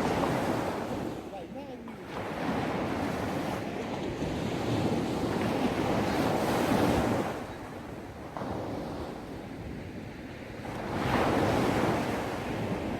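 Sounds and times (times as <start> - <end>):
sea waves washing onto beach: 0.0 - 12.9.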